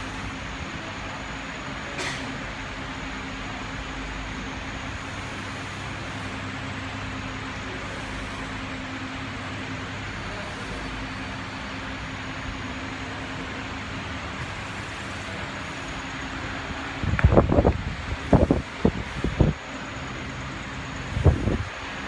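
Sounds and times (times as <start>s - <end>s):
machine hum with air noise: 0.0s - 22.0s.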